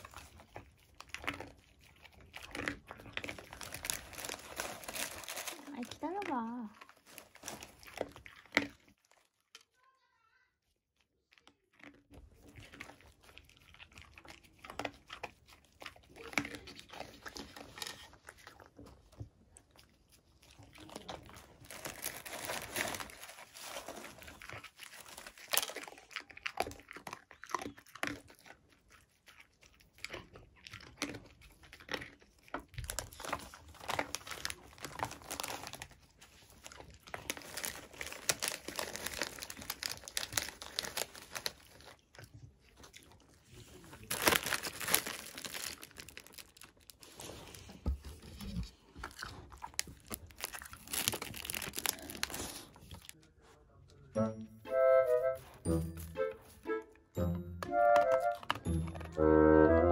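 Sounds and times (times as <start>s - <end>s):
snack bag crinkling: 0.0s - 9.8s, 11.2s - 53.2s, 57.7s - 59.9s
dog crunching treats: 0.0s - 10.0s, 11.0s - 54.1s, 57.6s - 59.9s.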